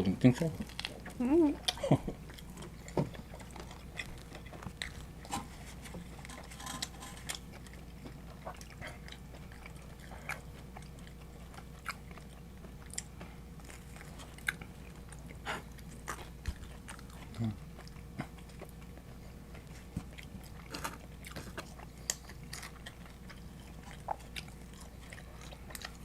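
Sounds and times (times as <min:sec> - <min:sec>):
chewing and biting food: 0:00.3 - 0:26.0.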